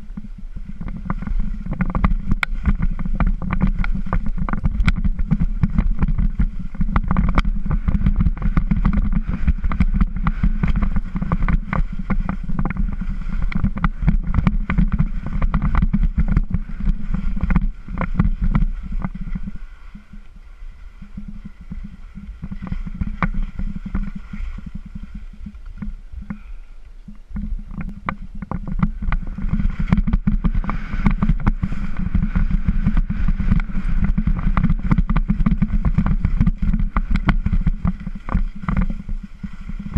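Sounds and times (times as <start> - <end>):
skis scraping over hard snow: 0.0 - 26.6, 27.3 - 39.9
wind rumble on microphone: 0.0 - 39.9
sharp clicks from ski edges: 0.2 - 20.3, 20.9 - 39.9.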